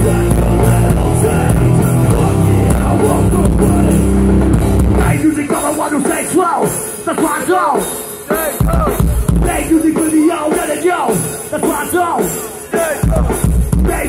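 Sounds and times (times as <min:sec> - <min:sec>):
hardcore band playing live: 0:00.0 - 0:14.0.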